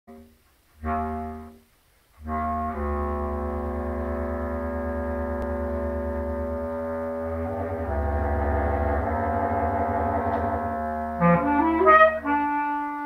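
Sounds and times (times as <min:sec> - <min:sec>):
contrabass clarinet low note: 0:00.1 - 0:01.6, 0:02.2 - 0:13.0
bass clarinet held notes: 0:00.1 - 0:13.0.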